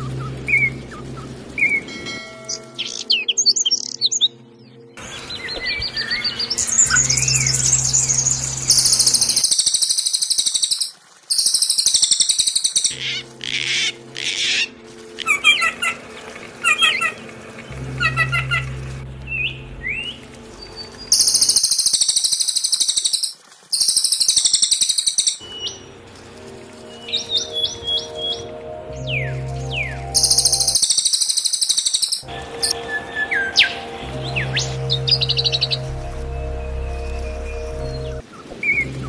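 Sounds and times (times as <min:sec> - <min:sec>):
bird chirping notes: 0:00.0 - 0:39.0
songbirds trilling: 0:00.0 - 0:39.0.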